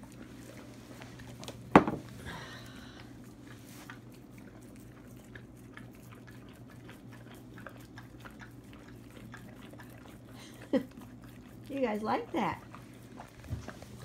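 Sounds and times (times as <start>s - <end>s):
dogs licking floor: 0.0s - 14.0s
low steady hum: 0.0s - 14.0s.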